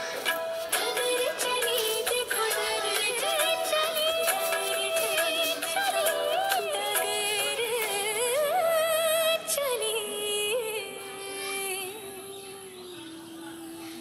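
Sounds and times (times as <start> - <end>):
high ornamented singing voice: 0.0 - 14.0
recorded song music: 0.0 - 14.0.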